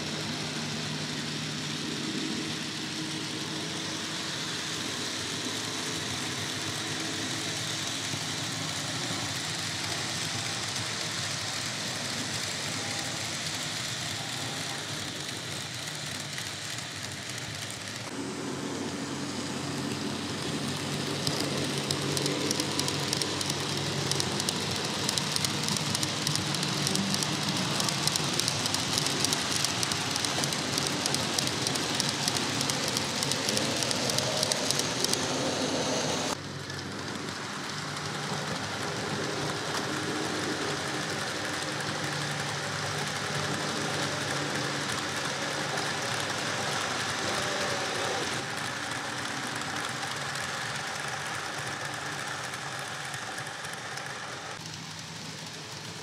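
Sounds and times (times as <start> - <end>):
model locomotive motor hum: 0.0 - 56.0
model train wheels clicking: 0.0 - 56.0.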